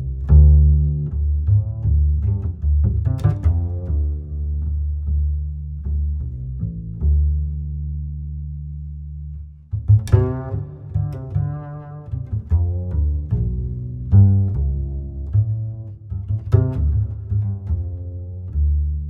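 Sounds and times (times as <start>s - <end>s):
background music with bass line: 0.0s - 19.0s.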